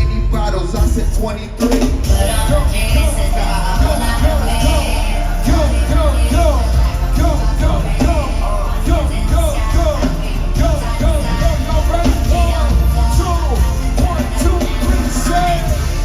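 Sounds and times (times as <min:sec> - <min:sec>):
crowd singing and shouting along: 0:00.0 - 0:16.0
hip-hop beat over sound system: 0:00.0 - 0:16.0.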